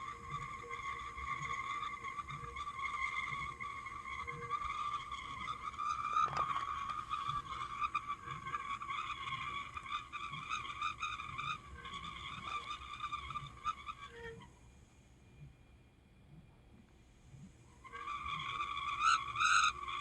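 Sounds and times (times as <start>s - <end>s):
motor bearing squealing: 0.0s - 14.6s, 17.8s - 20.0s.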